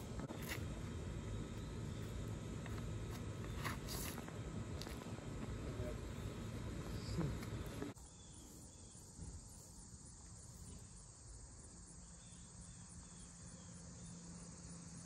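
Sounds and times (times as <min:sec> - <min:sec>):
faint low hum: 0:00.0 - 0:15.0
high insect chorus: 0:00.0 - 0:15.0.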